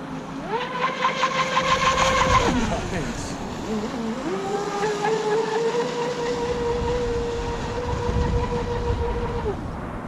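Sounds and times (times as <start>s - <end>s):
model boat motor whining: 0.0s - 9.6s.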